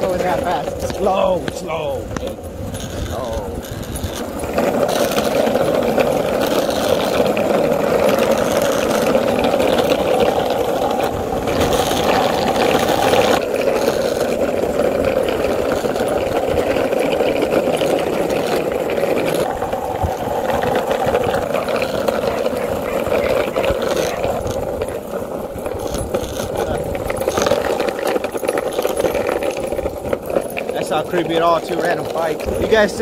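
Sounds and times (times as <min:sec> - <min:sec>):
skateboard wheels rolling on asphalt: 0:00.0 - 0:33.0.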